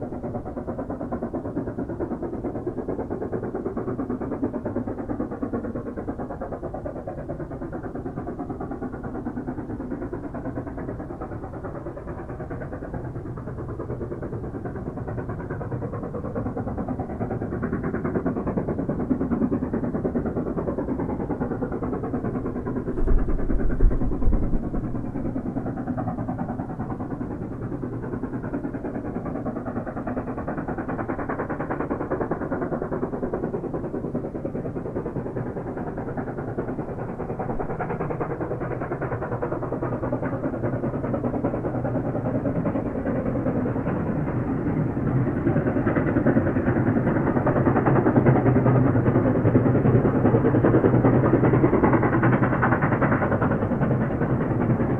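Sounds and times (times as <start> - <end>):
steam locomotive chuffing: 0.1 - 54.9.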